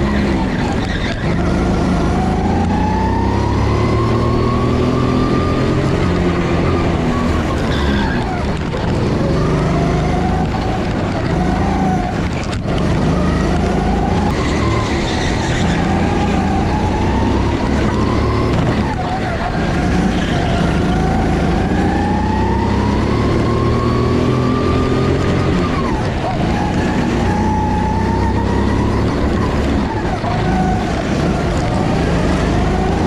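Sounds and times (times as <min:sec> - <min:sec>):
car engine accelerating through gears: 0:00.0 - 0:33.0.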